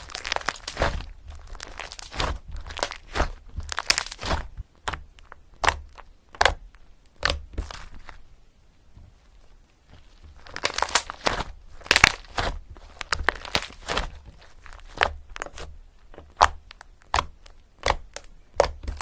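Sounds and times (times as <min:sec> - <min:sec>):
rustling and crinkling: 0:00.0 - 0:19.0.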